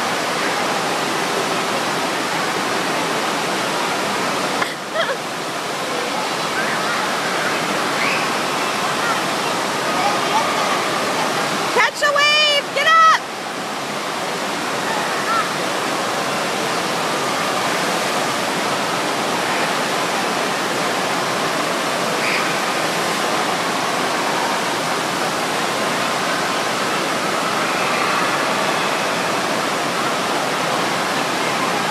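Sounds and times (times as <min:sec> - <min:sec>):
water rushing over a ramp: 0:00.0 - 0:31.9.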